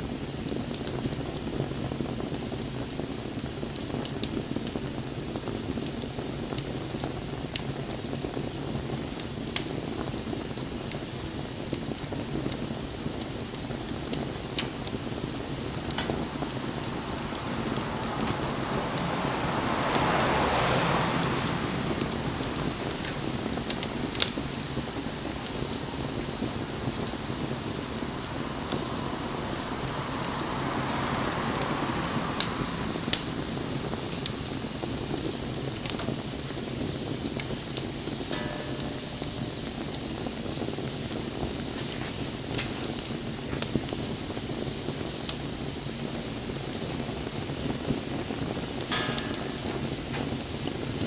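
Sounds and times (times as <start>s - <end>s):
rushing fire noise: 0.0s - 51.0s
wood fire hissing: 0.0s - 51.0s.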